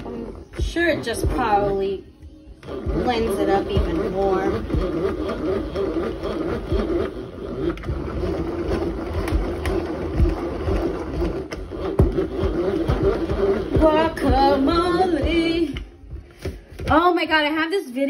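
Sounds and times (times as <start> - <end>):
hand-crank food chopper grinding: 0.0 - 16.9.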